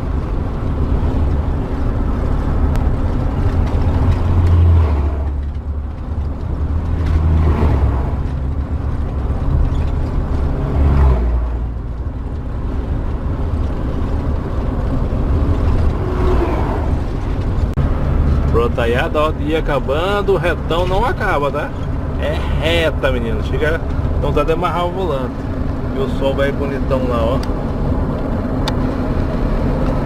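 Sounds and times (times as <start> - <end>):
bus engine humming: 0.0 - 30.0
road noise: 0.0 - 30.0.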